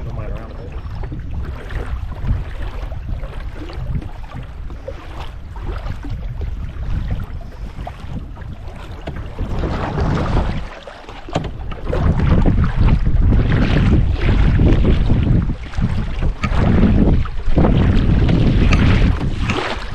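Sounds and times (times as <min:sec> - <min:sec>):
paddle splashes: 0:00.0 - 0:19.9
water lapping at hull: 0:00.0 - 0:19.9
wind rumble on microphone: 0:00.0 - 0:19.9.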